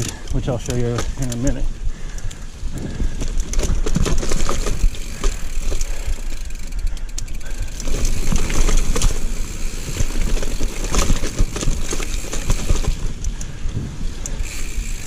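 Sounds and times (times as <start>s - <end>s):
bike frame rattling and clicking: 0.0s - 15.0s
tyres rumbling and wind: 0.0s - 15.0s.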